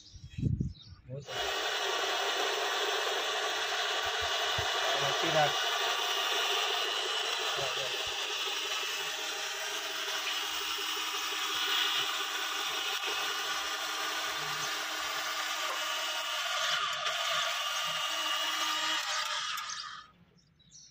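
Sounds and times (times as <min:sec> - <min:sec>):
small electric motor whine: 0:01.3 - 0:20.1.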